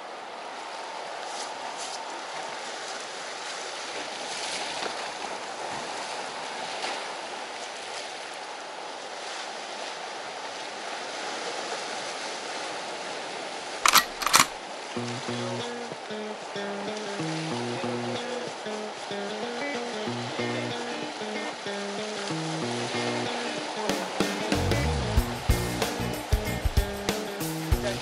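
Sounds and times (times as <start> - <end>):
sea waves against a breakwater: 0.0 - 13.8, 14.5 - 28.0.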